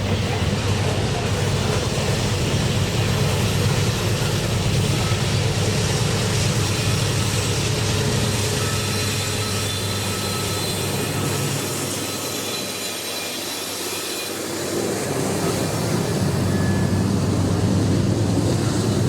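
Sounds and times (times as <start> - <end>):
diesel locomotive rumble: 0.0 - 19.0
freight train rolling noise: 0.0 - 19.0.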